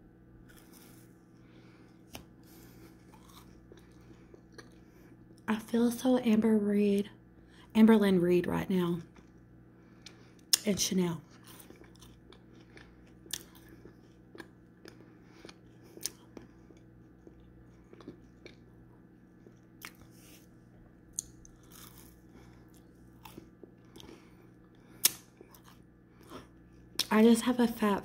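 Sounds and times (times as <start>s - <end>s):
person chewing with soft crunches: 0.4s - 5.5s, 8.7s - 27.2s.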